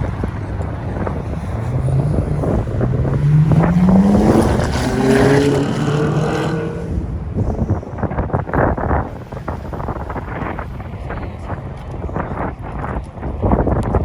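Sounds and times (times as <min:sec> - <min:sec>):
car engine accelerating hard: 0:00.0 - 0:12.8
wind buffeting microphone: 0:00.0 - 0:14.0.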